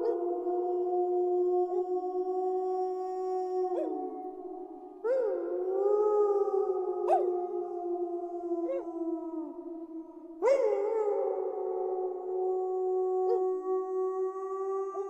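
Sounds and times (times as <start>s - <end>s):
wolves howling in chorus: 0.0s - 15.0s.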